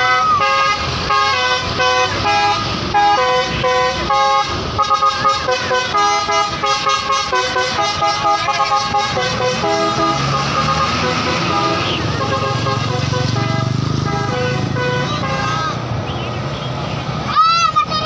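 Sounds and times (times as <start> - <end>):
bus horn playing a melody: 0.0 - 15.8.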